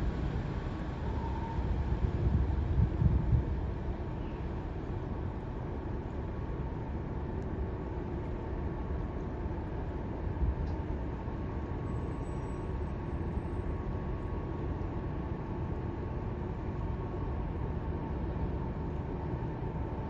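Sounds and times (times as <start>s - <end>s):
ship engine rumble: 0.0s - 20.0s.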